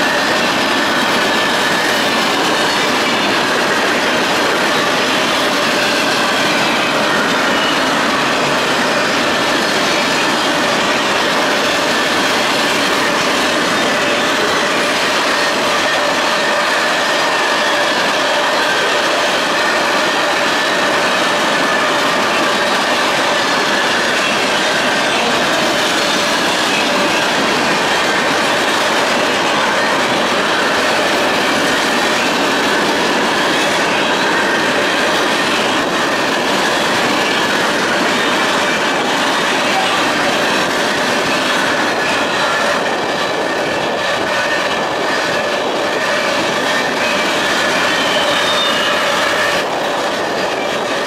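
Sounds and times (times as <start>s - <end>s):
steel wheels rumbling on rail: 0.0s - 51.0s.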